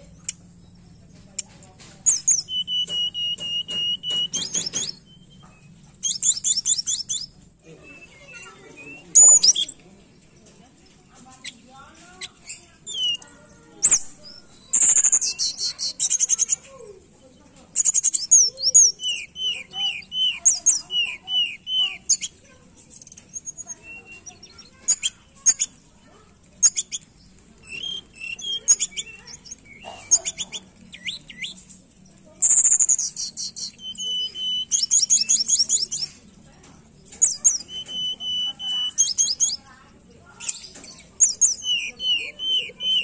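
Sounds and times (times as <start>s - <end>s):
songbird singing: 0.0s - 43.0s.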